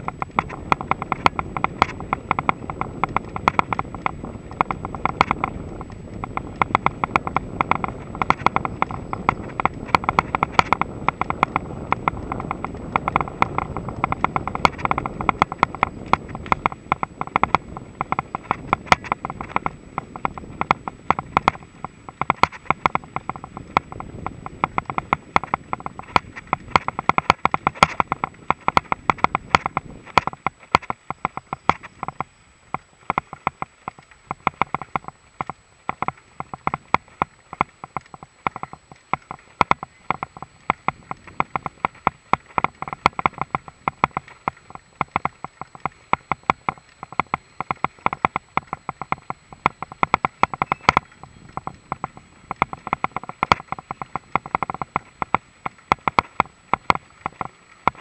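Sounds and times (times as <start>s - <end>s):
bike rattling clicks and knocks: 0.0s - 58.0s
low tyre rumble: 0.0s - 58.0s.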